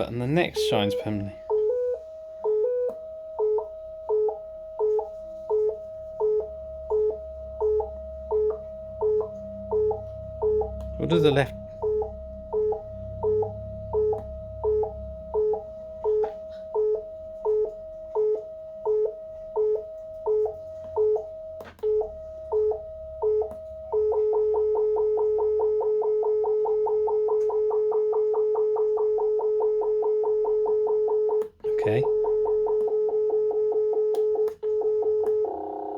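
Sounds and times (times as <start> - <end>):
buzzy electronic tone: 4.4 - 35.9.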